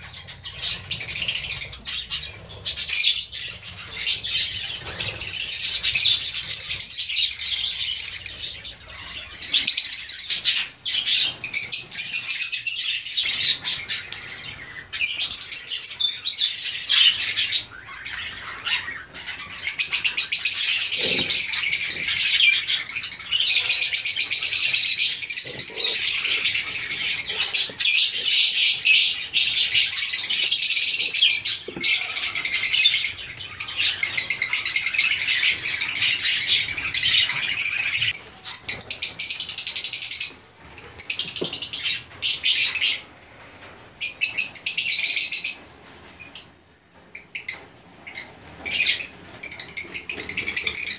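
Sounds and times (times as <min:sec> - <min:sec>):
birds chattering shrilly: 0:00.0 - 0:43.2, 0:47.2 - 0:50.9.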